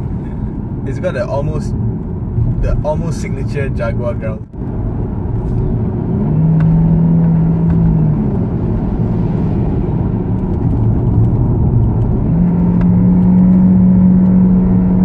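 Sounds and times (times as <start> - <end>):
car engine growling inside cabin: 0.0 - 15.0.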